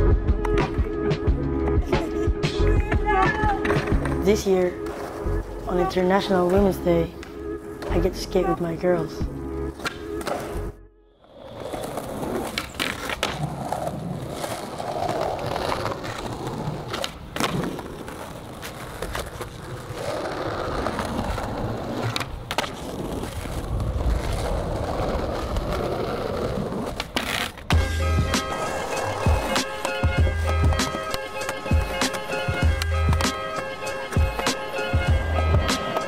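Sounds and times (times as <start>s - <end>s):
skateboard wheels rolling on pavement: 0.0s - 36.0s
skateboard clacking: 2.9s - 9.1s, 11.4s - 36.0s.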